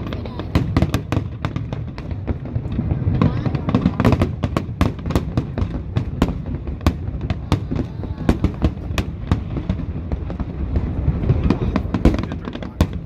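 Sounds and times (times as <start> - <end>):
fireworks bangs and crackles: 0.0 - 13.0
low rumble of fireworks bursts: 0.0 - 13.0.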